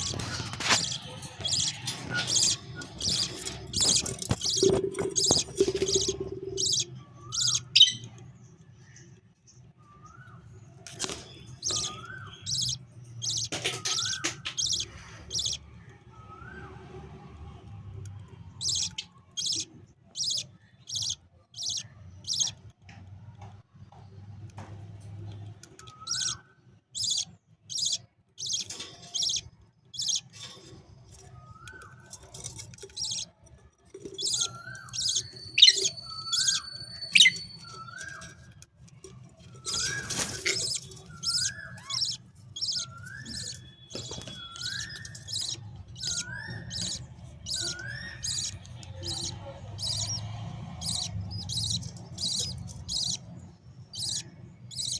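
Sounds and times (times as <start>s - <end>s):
budgerigar chicks chirping: 0.0s - 8.2s, 10.8s - 15.6s, 18.5s - 22.6s, 25.7s - 26.4s, 27.0s - 33.3s, 34.0s - 38.6s, 39.4s - 54.9s.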